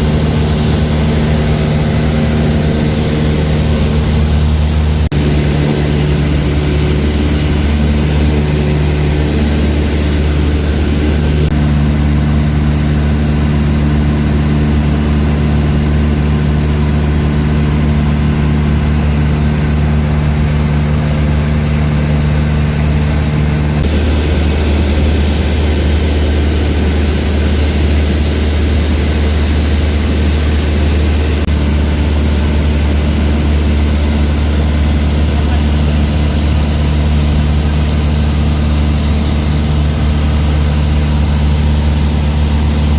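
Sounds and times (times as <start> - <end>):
propeller aircraft engine drone: 0.0 - 42.9.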